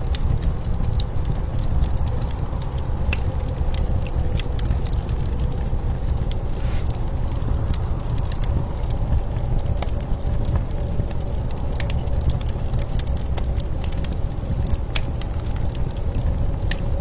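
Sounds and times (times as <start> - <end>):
low rumble of blizzard wind: 0.0 - 17.0
wood fire crackling and popping: 0.0 - 17.0.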